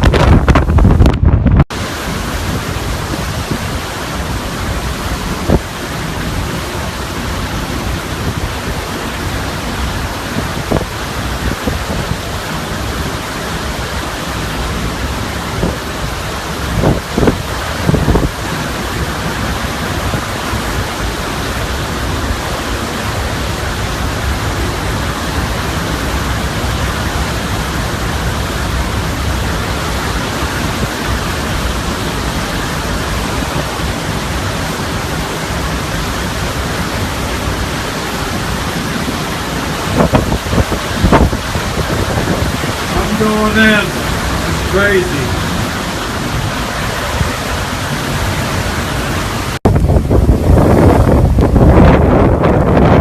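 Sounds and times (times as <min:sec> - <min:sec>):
heavy rain: 0:00.0 - 0:53.0
strong wind gusts: 0:00.0 - 0:53.0.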